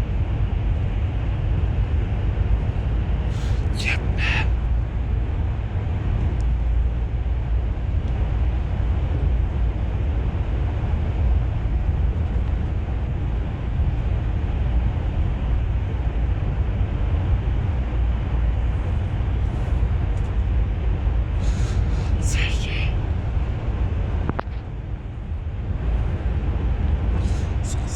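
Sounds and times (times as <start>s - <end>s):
bus engine and road rumble: 0.0s - 27.9s.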